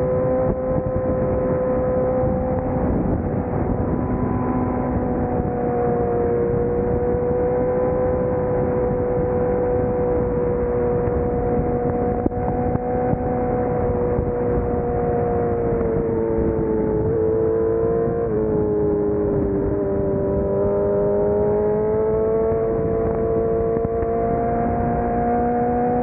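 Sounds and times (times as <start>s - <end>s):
motorcycle engine cruising: 0.0s - 26.0s
wind rush: 0.0s - 26.0s.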